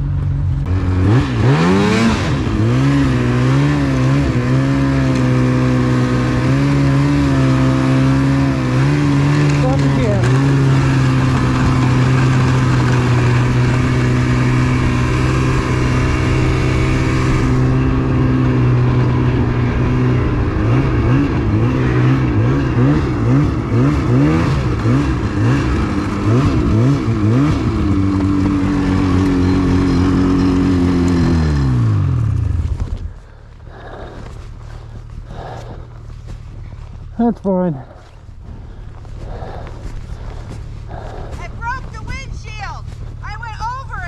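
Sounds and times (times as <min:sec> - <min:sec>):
snowmobile engine revving: 0:00.0 - 0:44.0.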